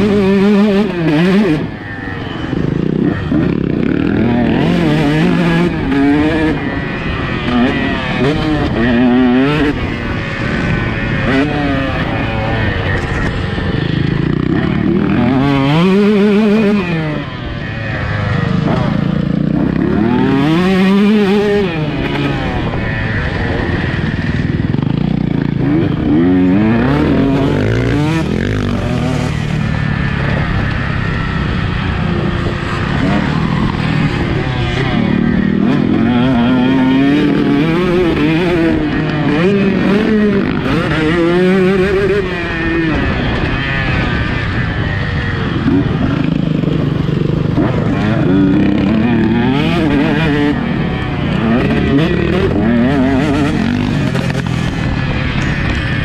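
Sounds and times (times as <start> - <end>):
motocross bike revving: 0.0 - 56.0.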